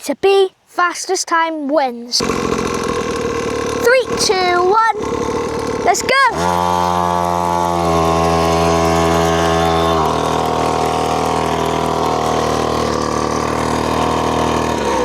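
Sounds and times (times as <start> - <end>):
mini dirt bike engine running: 2.2 - 15.0.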